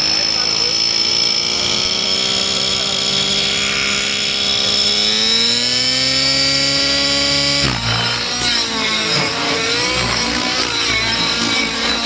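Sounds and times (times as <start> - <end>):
model helicopter engine and rotor: 0.0 - 12.0.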